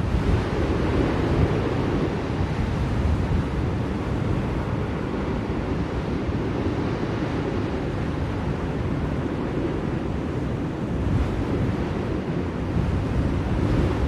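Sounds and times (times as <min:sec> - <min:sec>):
blizzard wind blowing: 0:00.0 - 0:14.0.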